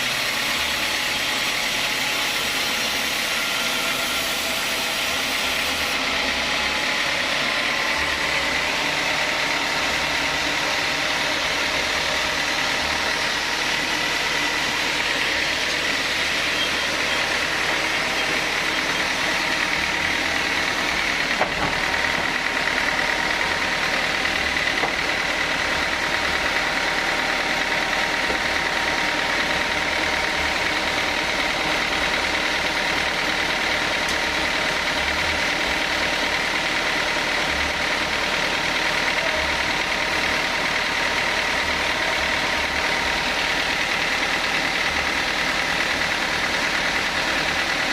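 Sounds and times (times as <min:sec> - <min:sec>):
sawmill saw machinery running: 0:00.0 - 0:47.9.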